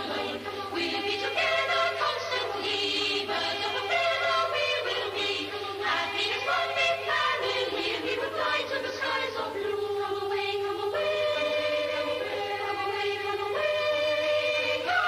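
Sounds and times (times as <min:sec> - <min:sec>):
choir singing slow melody: 0:00.0 - 0:15.0.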